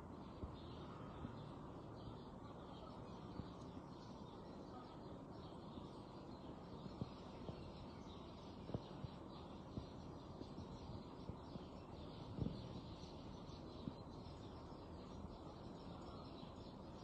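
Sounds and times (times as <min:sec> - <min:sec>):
faint bird chirps: 0:00.0 - 0:17.0
low background hiss: 0:00.0 - 0:17.0.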